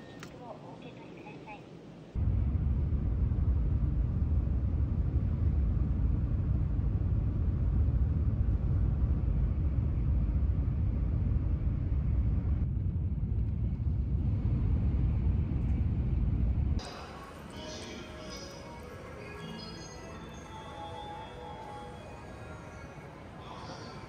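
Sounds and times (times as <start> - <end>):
train carriage rumble: 0.0 - 24.0.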